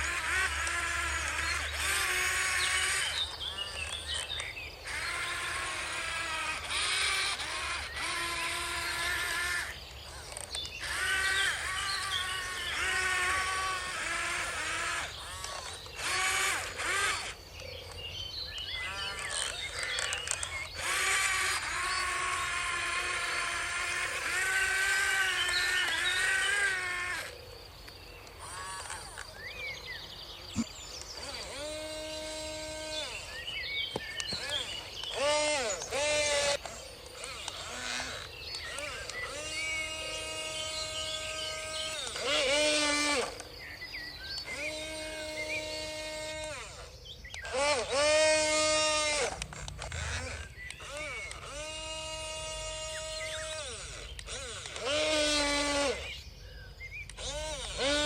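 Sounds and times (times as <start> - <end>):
toy electric motors whining: 0.0 - 58.0.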